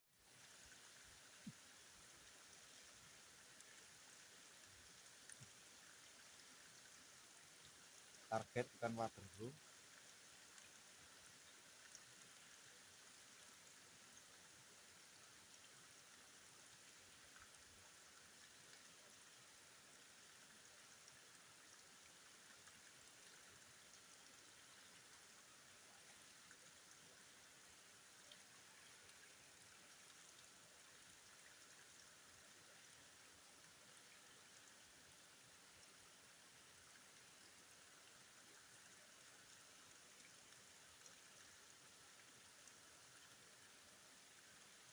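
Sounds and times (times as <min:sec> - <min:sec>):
flowing river water: 0:00.1 - 0:44.9.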